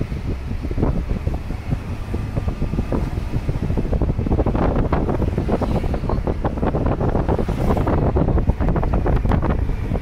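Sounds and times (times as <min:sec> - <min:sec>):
low road rumble: 0:00.0 - 0:10.0
wind buffeting microphone: 0:00.0 - 0:10.0.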